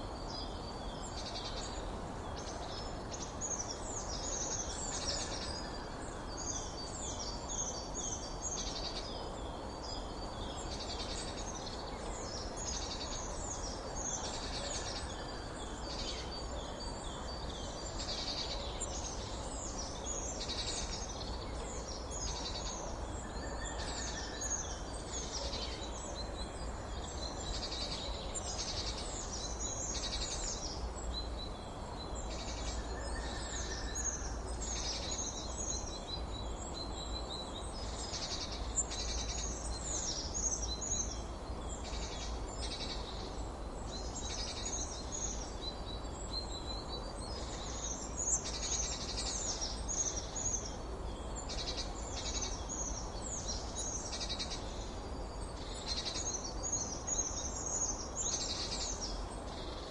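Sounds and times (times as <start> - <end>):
low background noise: 0.0 - 59.9.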